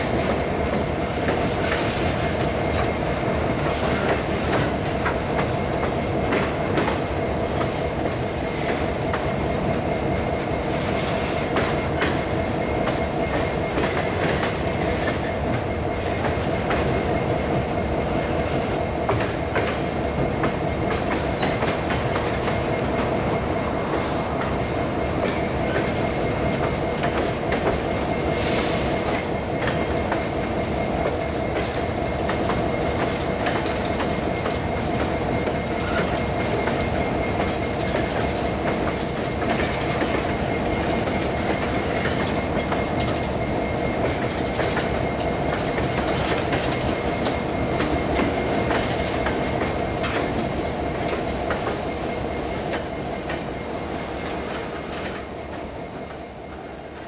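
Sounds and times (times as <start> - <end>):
freight train wheels rumbling: 0.0 - 57.0
high ringing tone: 0.0 - 57.0.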